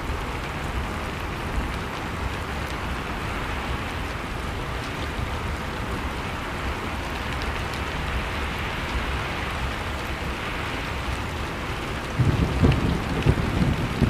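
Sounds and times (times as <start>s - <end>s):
faint fire crackles: 0.0s - 14.0s.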